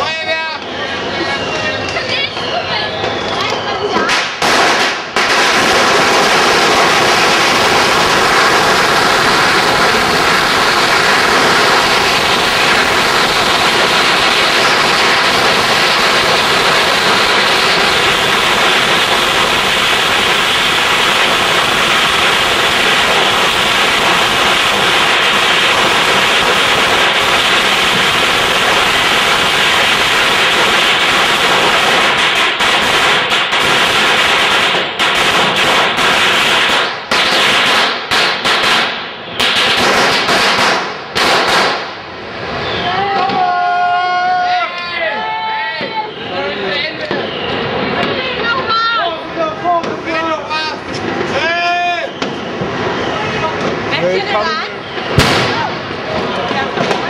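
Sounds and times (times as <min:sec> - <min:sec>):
firework spraying sparks hissing: 0:00.0 - 0:43.2, 0:45.3 - 0:57.0
sharp firework cracks: 0:01.6 - 0:43.6, 0:46.9 - 0:57.0.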